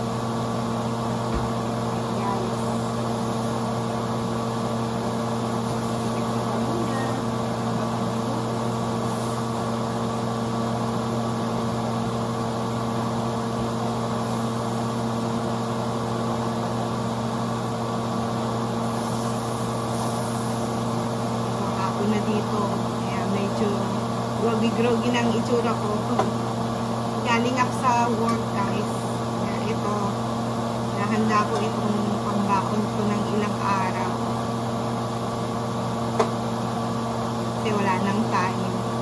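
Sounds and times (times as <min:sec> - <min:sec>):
appliance motor hum: 0:00.0 - 0:39.0.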